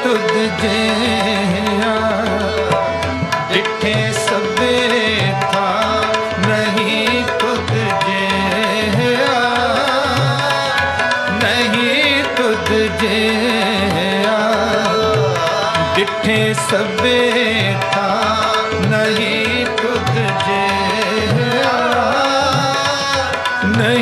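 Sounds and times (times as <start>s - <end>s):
harmonium: 0.0s - 24.0s
person singing ornamented melody: 0.0s - 24.0s
tabla beat: 0.0s - 24.0s.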